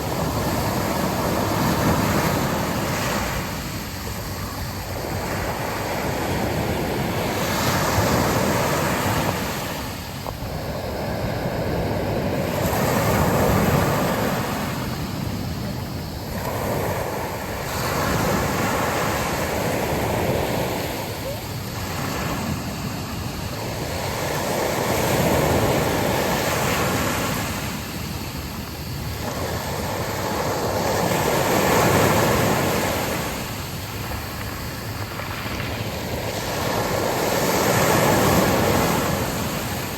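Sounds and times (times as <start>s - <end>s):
sea waves breaking on beach: 0.0s - 39.9s
wind blowing: 0.0s - 39.9s.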